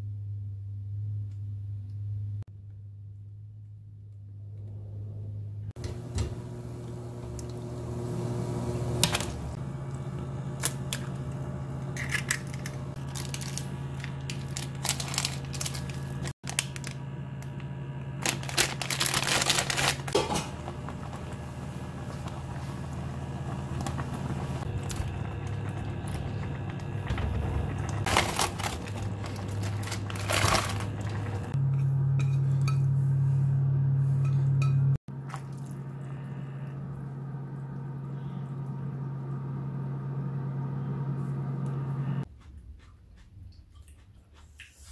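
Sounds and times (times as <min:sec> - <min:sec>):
steady low hum: 0:00.0 - 0:44.1.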